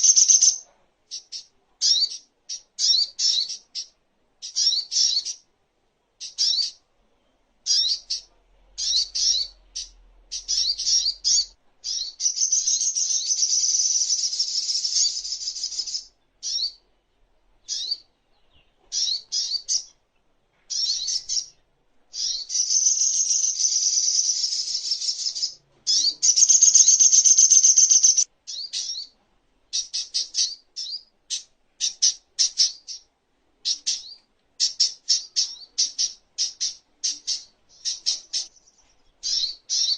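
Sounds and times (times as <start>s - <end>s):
bird singing chirps and trills: 0.0s - 5.4s, 6.2s - 6.8s, 7.7s - 16.8s, 17.6s - 20.0s, 20.7s - 39.9s.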